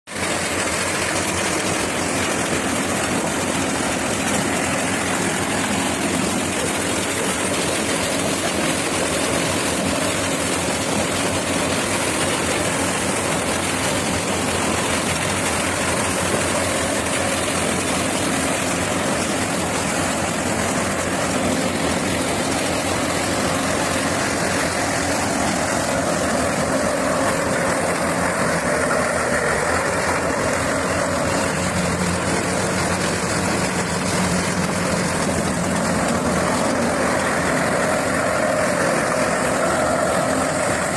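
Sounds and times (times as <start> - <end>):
harvester machinery running: 0.1 - 40.9.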